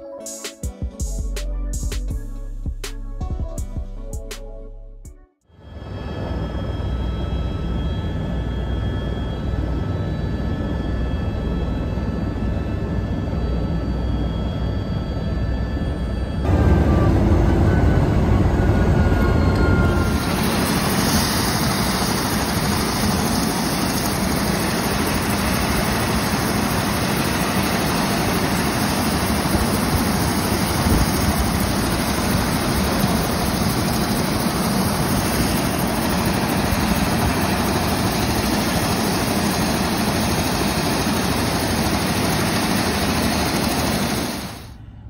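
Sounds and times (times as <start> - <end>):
helicopter engine and rotor noise: 5.5 - 45.0.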